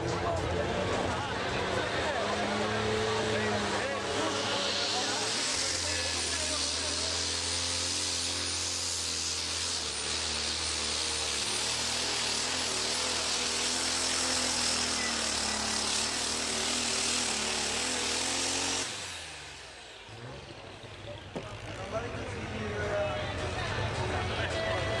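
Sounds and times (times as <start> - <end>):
diesel engine running flat out: 0.0 - 25.0.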